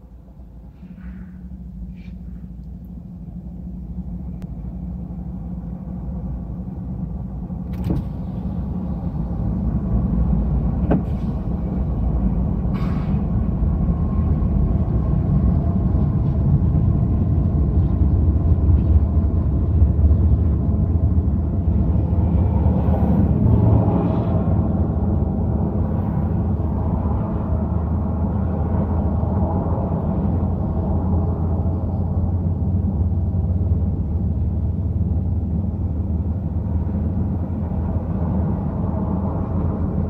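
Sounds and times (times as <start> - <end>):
diesel locomotive engine rumble: 0.0 - 40.0.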